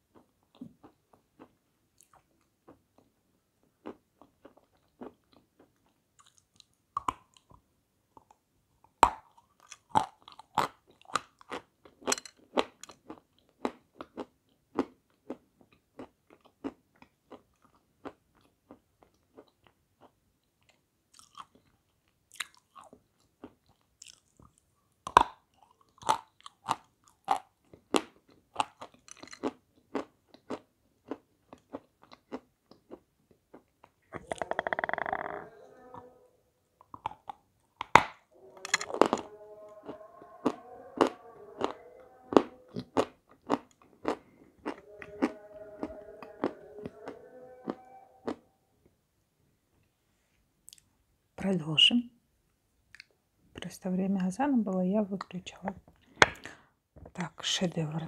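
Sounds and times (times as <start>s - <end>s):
chewing and crunching sweet: 0.0s - 36.2s, 36.8s - 48.5s.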